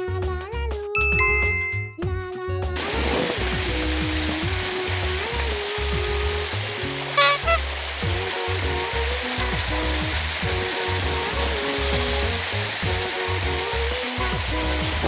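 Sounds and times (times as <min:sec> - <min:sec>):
background music with bass: 0:00.0 - 0:15.0
steady hissing noise: 0:02.8 - 0:15.0.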